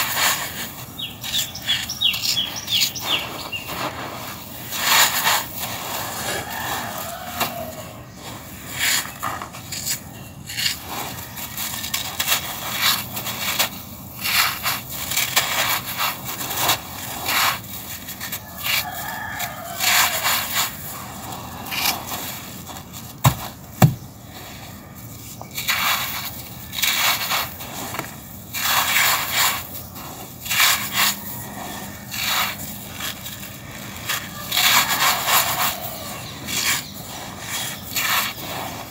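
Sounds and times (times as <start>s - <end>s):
sand crunching between fingers: 0.0s - 38.9s.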